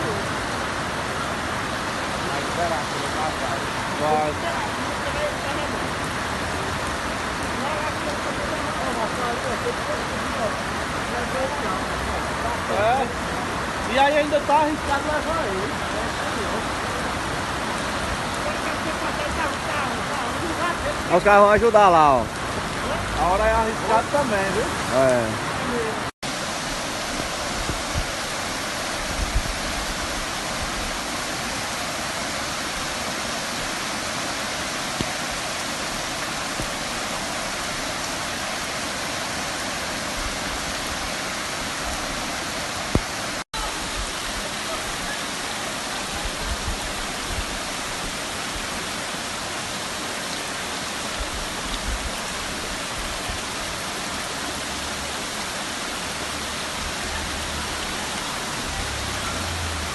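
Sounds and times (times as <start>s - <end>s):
heavy rain: 0.0s - 59.9s
rushing floodwater: 0.0s - 59.9s.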